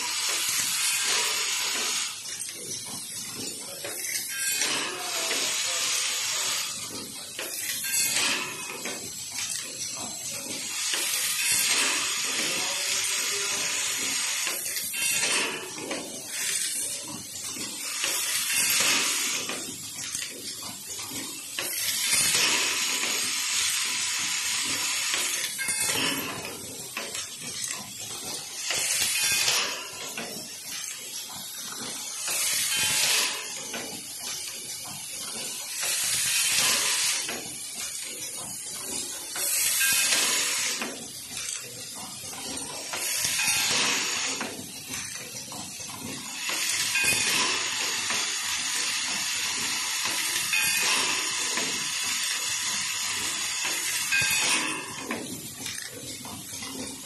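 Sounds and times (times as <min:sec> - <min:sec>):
machine clicking and rattling: 0:00.0 - 0:57.0.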